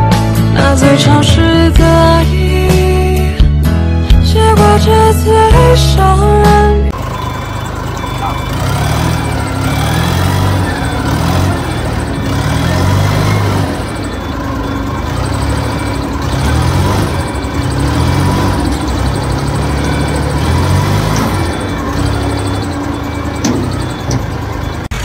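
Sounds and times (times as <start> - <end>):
forklift engine running: 0.0 - 25.0.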